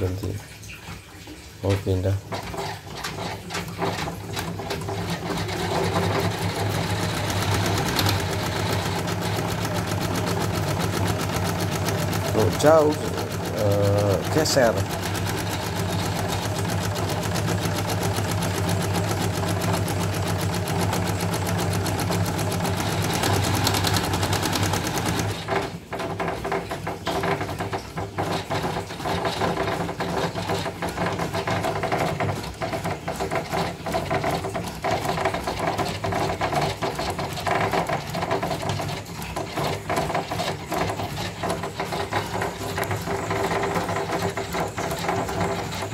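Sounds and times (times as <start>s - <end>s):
motor hum: 0.0s - 45.9s
embroidery machine stitching: 1.7s - 45.9s.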